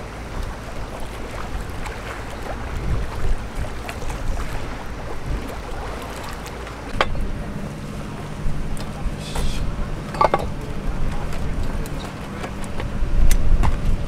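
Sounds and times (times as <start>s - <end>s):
water lapping against seawall: 0.0s - 14.0s
wind buffeting microphone: 0.0s - 14.0s.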